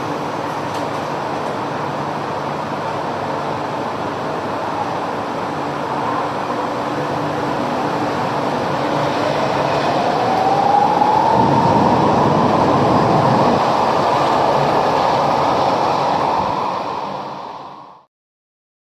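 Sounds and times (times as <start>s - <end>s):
wheel and rail noise: 0.0s - 18.0s.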